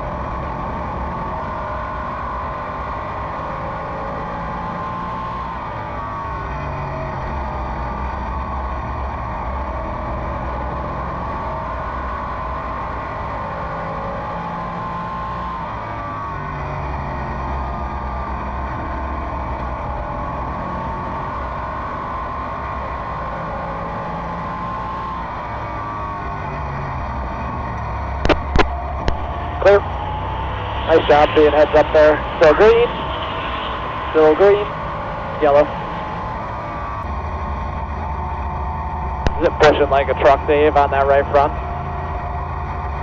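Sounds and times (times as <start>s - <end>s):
race car engine: 0.0s - 43.0s.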